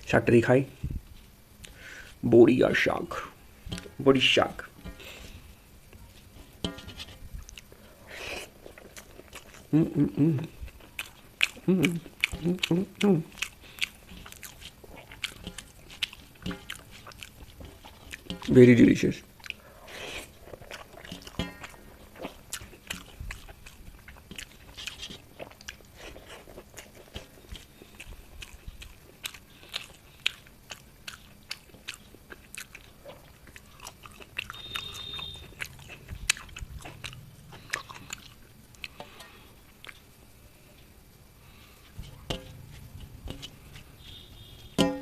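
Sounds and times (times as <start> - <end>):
person chewing food: 3.7 - 4.0, 4.8 - 44.8.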